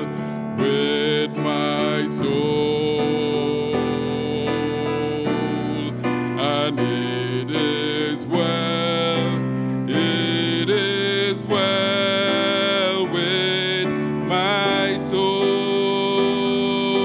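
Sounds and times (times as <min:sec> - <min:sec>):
instrumental accompaniment: 0:00.0 - 0:17.0
man singing a hymn: 0:00.0 - 0:17.0.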